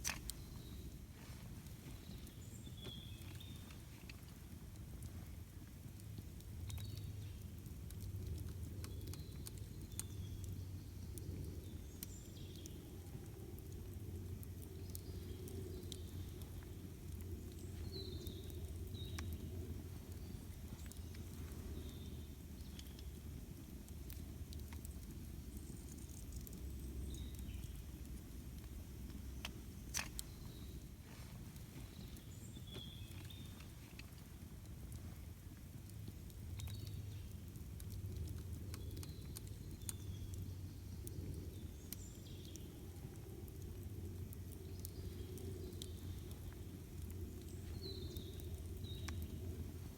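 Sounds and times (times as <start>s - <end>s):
campfire crackling and popping: 0.0s - 49.9s
low steady rumble: 0.0s - 49.9s.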